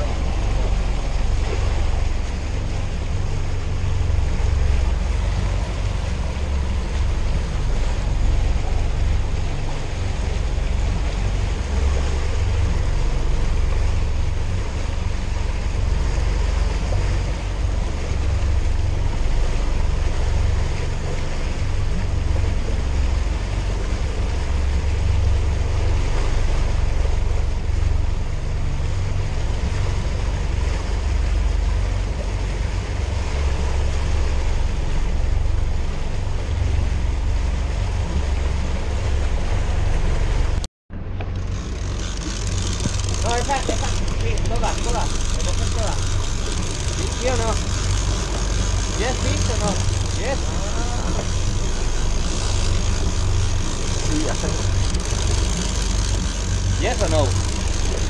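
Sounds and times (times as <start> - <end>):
boat engine rumbling: 0.0 - 58.0
wake churning: 0.0 - 58.0.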